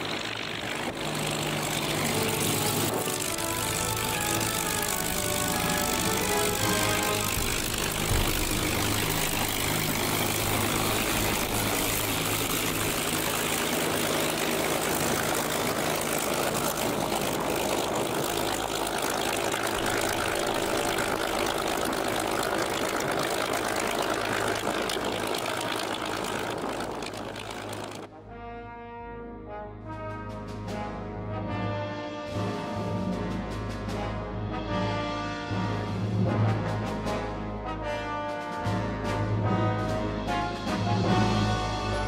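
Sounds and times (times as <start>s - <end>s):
aircraft engine and propeller running: 0.0s - 42.0s.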